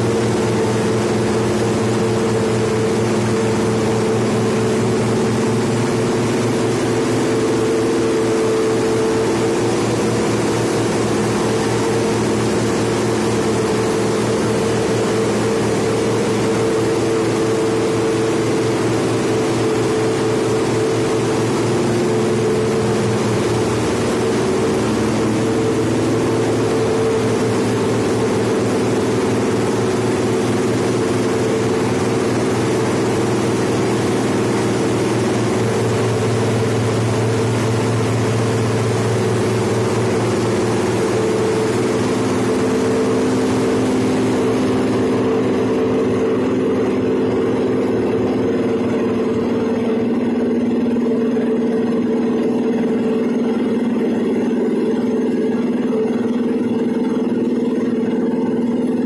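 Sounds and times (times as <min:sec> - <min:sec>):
ship machinery drone: 0:00.0 - 0:59.0.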